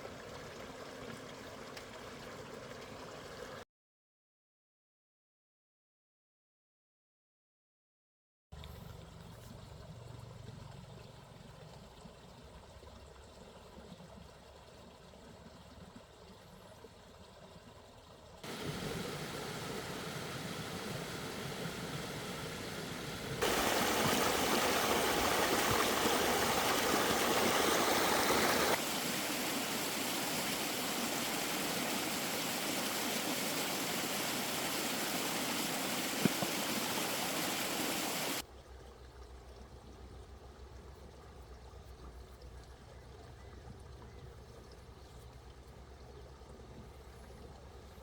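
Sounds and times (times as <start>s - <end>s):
running water: 0.0s - 3.6s, 8.6s - 48.0s.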